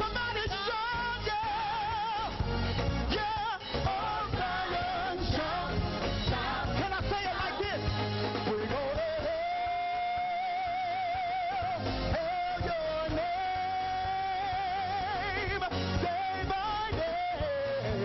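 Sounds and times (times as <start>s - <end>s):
instrumental backing: 0.0s - 18.0s
person singing with vibrato: 3.0s - 18.0s.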